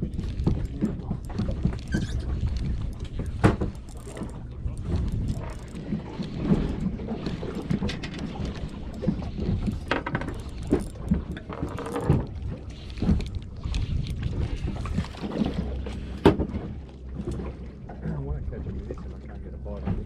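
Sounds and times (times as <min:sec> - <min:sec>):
knocks and bumps on boat: 0:00.0 - 0:20.0
steady low rumble: 0:00.0 - 0:20.0.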